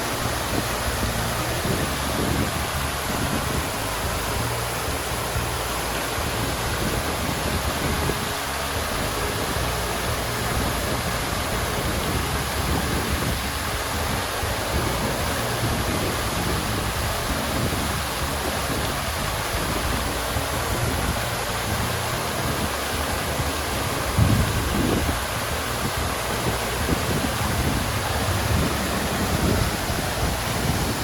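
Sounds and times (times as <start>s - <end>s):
water fountain splashing: 0.0s - 31.0s.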